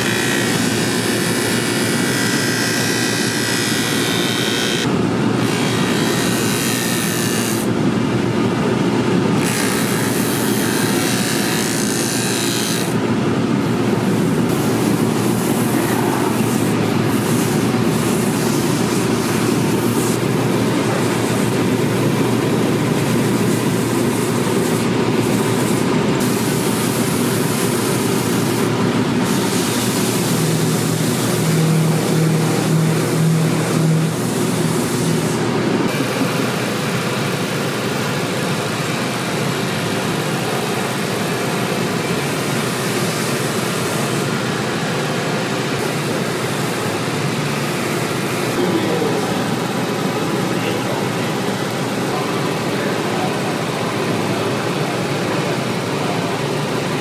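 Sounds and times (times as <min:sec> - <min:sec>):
machine motor drone: 0:00.0 - 0:57.0.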